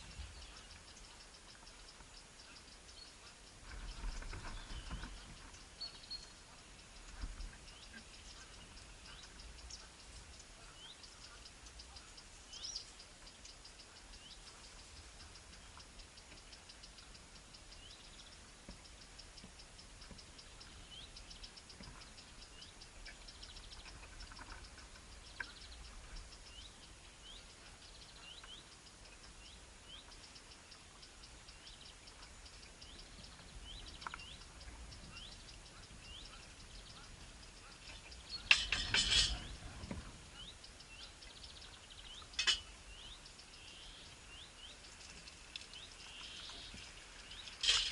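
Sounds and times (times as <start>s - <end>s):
faint bird chirps: 0.0s - 47.9s.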